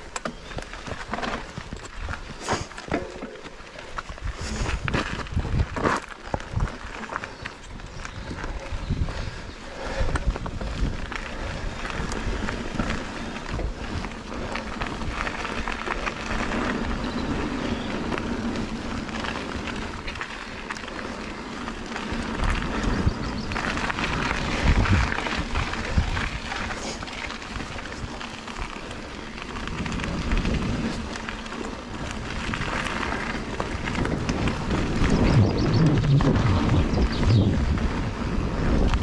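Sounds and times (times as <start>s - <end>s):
bike knocking and rattling: 0.0s - 39.0s
bike tyres on gravel: 0.0s - 39.0s
wind buffeting microphone: 3.9s - 39.0s.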